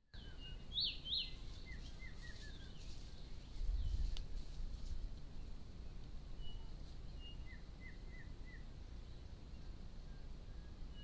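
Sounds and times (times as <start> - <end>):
low rumble and hiss: 0.2 - 11.0.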